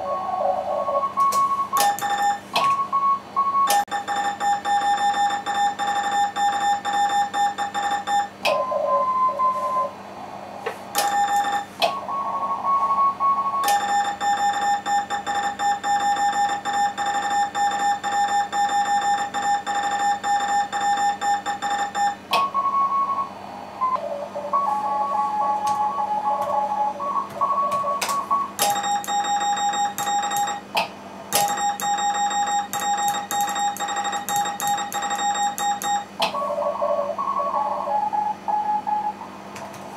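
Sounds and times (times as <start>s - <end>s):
morse code tone: 1.0s - 9.9s, 11.0s - 30.7s, 31.4s - 39.2s.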